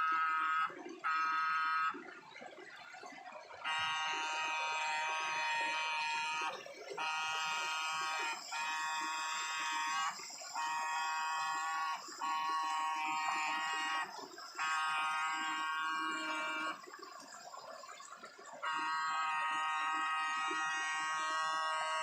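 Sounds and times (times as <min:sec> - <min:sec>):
electric stunner buzzing whine: 0:03.6 - 0:22.0.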